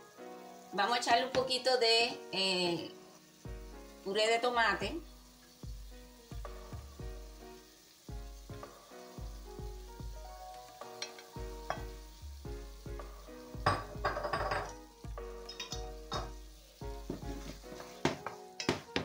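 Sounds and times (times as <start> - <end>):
vegetables sizzling in a pot: 0.0 - 19.0.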